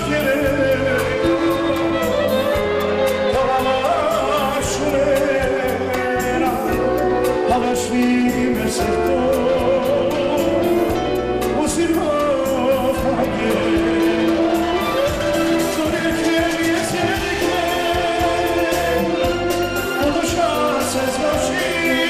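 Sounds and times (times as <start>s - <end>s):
live band with drum beat: 0.0s - 22.0s
man singing ornamented melody: 3.3s - 22.0s.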